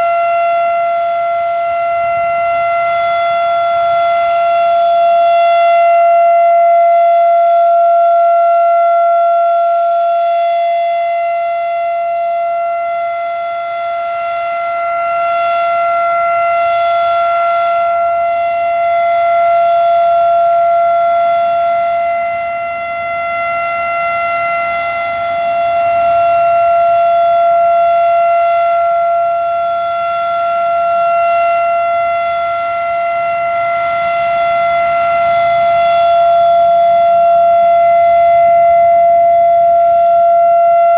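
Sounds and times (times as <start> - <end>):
rotating siren steady tone: 0.0 - 40.9.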